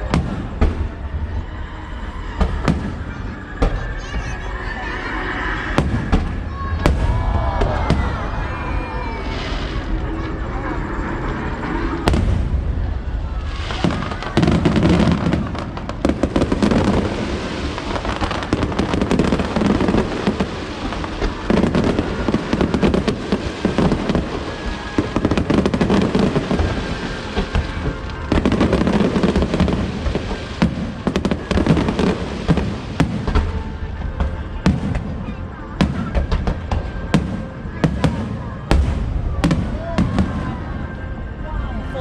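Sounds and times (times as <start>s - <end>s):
fireworks bangs and crackles: 0.0s - 4.5s, 5.4s - 41.4s.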